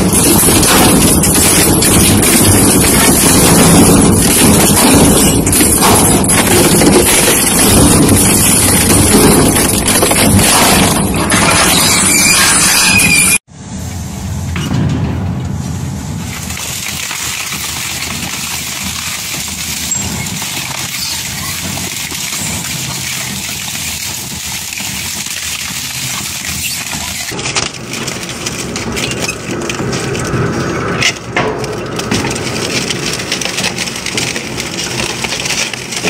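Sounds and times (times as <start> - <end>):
industrial shredding machine grinding: 0.0 - 13.4, 16.2 - 36.0.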